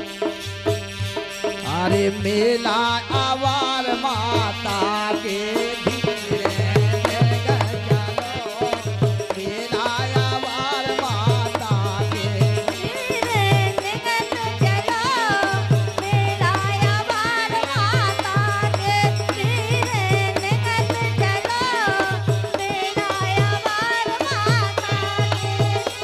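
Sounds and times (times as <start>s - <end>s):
harmonium: 0.0s - 26.0s
woman singing: 2.5s - 26.0s
hand drum beat: 3.2s - 26.0s.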